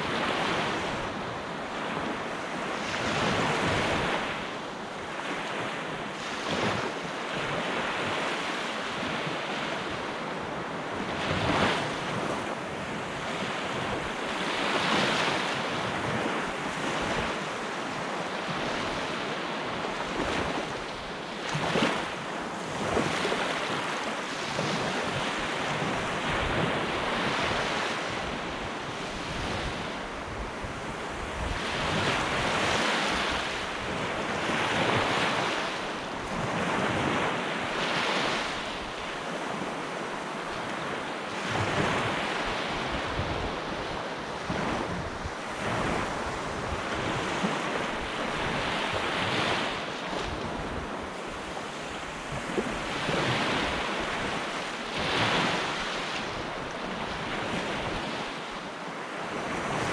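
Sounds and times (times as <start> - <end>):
waves breaking on sandy beach: 0.0 - 59.9
wind rumbling on microphone: 0.0 - 59.9.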